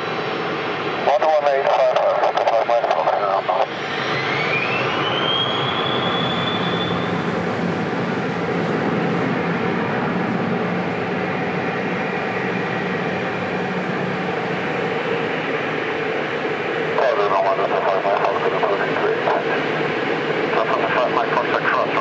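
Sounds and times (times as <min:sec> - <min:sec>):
high turbine whine: 0:00.0 - 0:22.0
jet engines roaring: 0:00.0 - 0:22.0.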